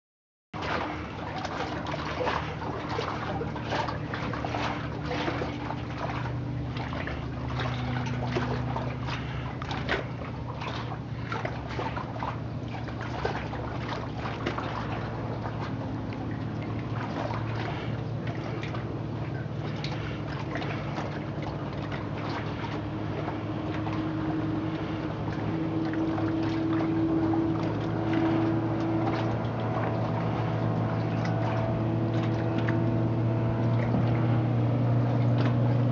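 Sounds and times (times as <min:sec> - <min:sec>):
distant propeller plane engine: 0:00.6 - 0:35.9
water sloshing and trickling: 0:00.6 - 0:35.9.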